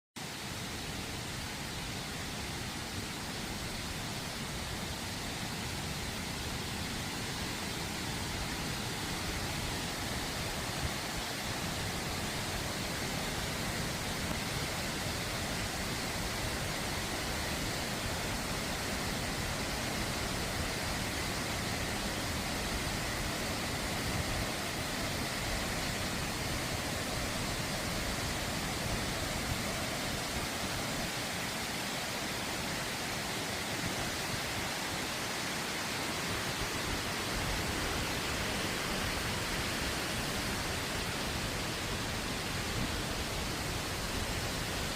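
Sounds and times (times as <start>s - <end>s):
waterfall rushing: 0.2s - 44.9s.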